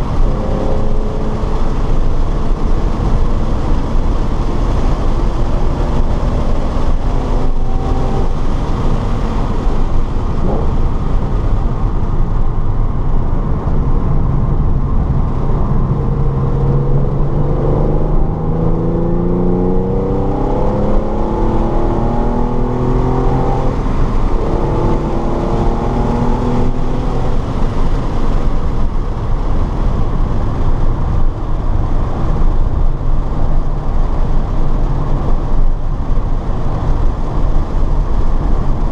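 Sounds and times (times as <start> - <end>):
race car engine: 0.0 - 38.9
road and wind noise: 0.0 - 38.9.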